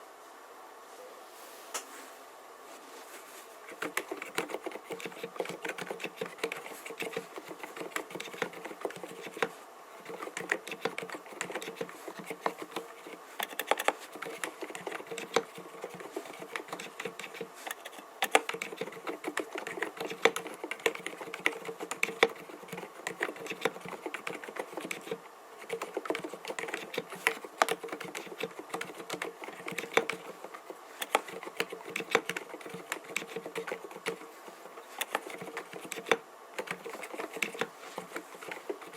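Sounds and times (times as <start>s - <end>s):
muted keyboard typing: 3.7s - 38.9s.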